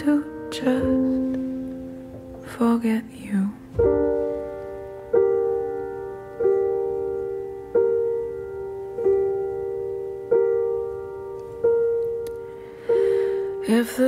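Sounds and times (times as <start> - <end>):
piano chord ringing: 0.0 - 14.0.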